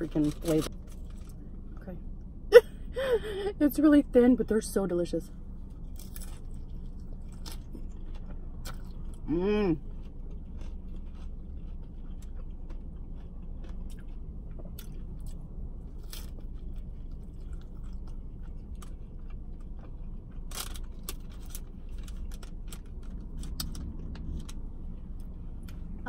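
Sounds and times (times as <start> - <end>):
crunching and chewing taco shell: 0.0 - 1.8, 5.5 - 26.0.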